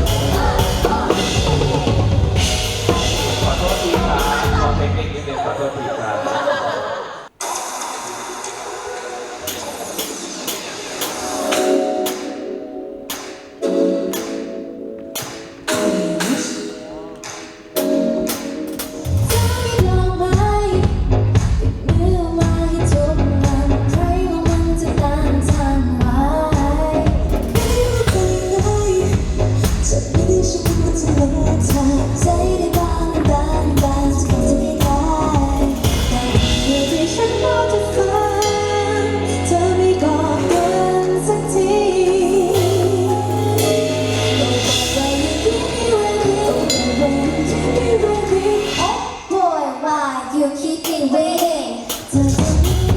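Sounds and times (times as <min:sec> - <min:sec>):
pop song with female vocals: 0:00.0 - 0:05.6, 0:15.2 - 0:52.9.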